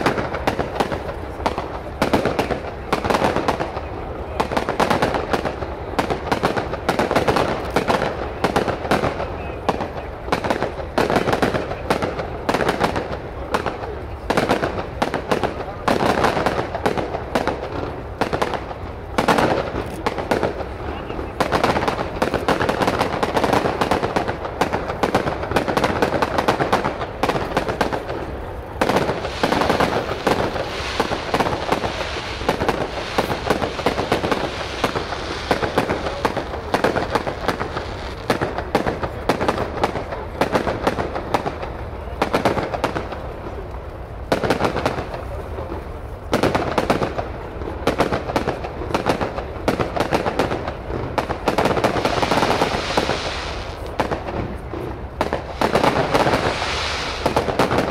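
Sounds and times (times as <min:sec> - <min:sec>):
fireworks bangs and crackling: 0:00.0 - 0:57.9.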